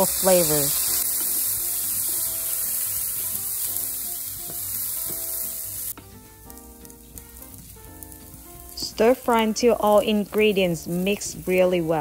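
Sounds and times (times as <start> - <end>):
rice sizzling in oil: 0.0 - 12.0
soft background music: 0.0 - 12.0.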